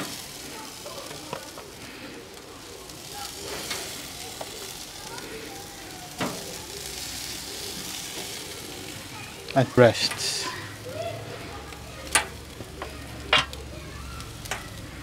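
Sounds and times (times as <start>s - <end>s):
chicken sizzling on a grill: 0.0s - 15.0s.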